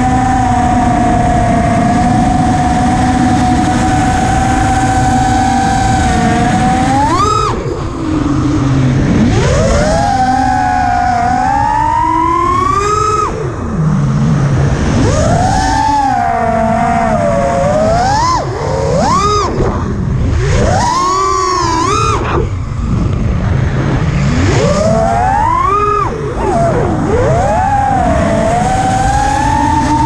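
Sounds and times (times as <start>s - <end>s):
quadcopter motors whining: 0.0s - 30.0s
wind rush on microphone: 0.0s - 30.0s.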